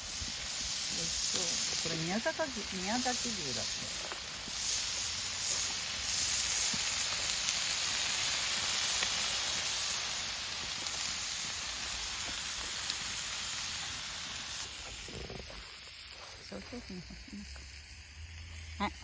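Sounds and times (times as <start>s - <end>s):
beef sizzling on a grill: 0.0s - 19.0s.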